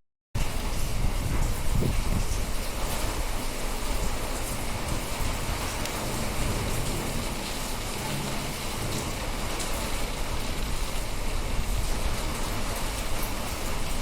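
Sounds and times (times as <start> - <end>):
heavy rain pouring: 0.4 - 14.0
wind gusts on microphone: 0.4 - 14.0.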